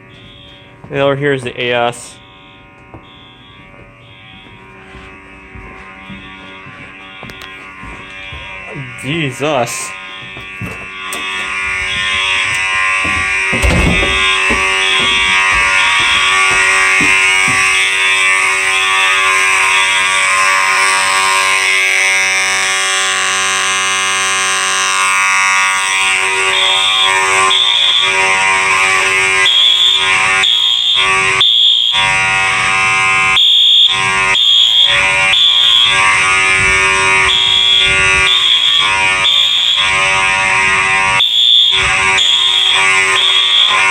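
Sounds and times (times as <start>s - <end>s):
fire alarm horn harsh buzz: 0.0s - 43.9s
fire alarm horn pulsing tone: 0.0s - 43.9s.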